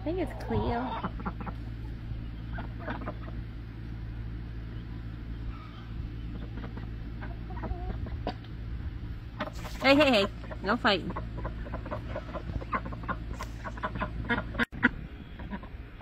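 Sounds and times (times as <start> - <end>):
hens clucking: 0.0 - 4.0, 4.7 - 16.0
steady low hum: 0.0 - 16.0.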